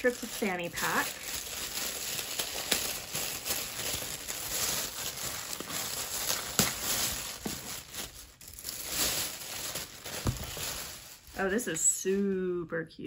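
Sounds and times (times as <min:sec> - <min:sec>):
packaging rustling and crinkling: 0:00.0 - 0:12.2.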